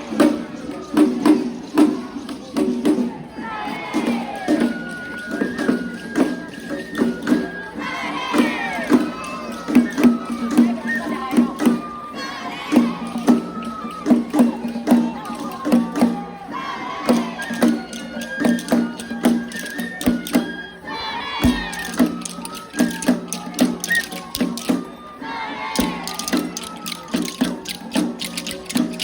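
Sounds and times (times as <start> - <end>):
drums and metal percussion: 0.0 - 29.0
voices calling out: 0.0 - 29.0
flute melody: 3.5 - 29.0.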